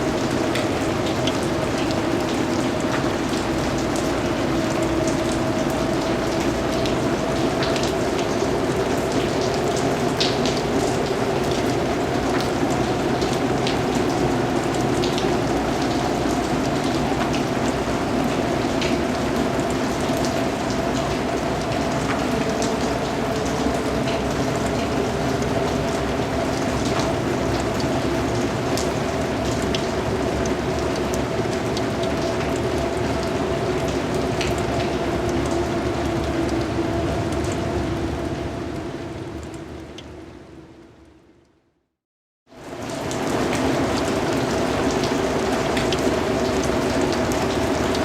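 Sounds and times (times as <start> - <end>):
steady rain pattering: 0.0 - 41.8, 42.5 - 48.0.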